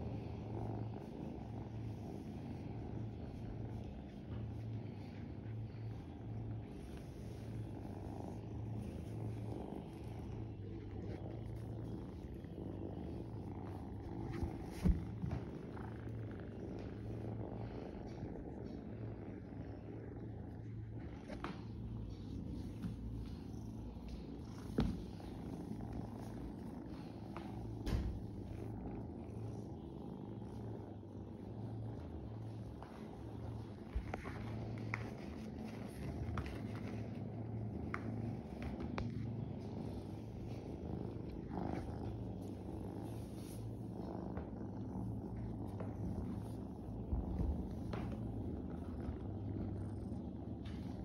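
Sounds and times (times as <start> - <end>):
kitten purring: 0.0 - 51.0.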